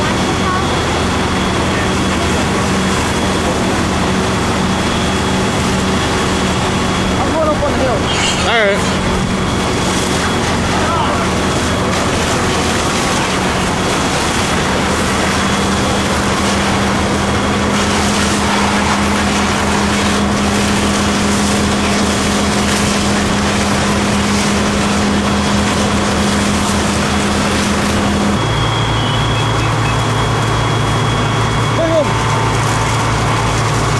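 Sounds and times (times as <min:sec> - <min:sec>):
pump engine droning: 0:00.0 - 0:33.9.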